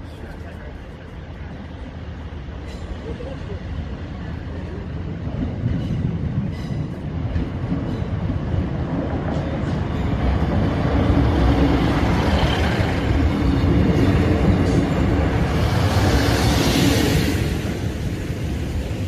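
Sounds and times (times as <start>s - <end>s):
diesel train passing: 0.0s - 19.0s
train engine drone: 0.0s - 19.0s.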